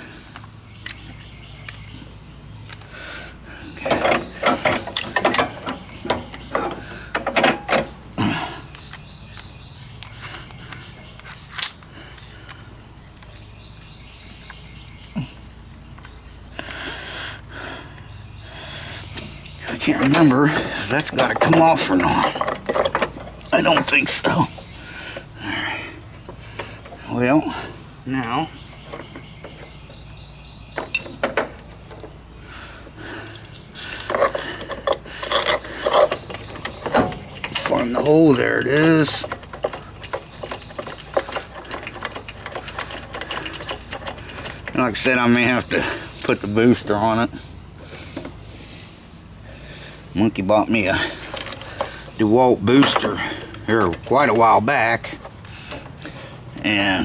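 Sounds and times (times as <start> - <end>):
tools clinking and knocking: 3.6 - 16.4, 19.0 - 27.4, 28.1 - 32.3, 33.0 - 47.2, 50.6 - 57.0.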